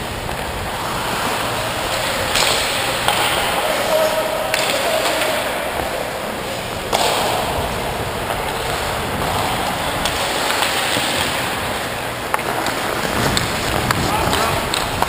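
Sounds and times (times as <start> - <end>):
skate blades scraping ice: 0.2 - 7.5, 8.2 - 15.0.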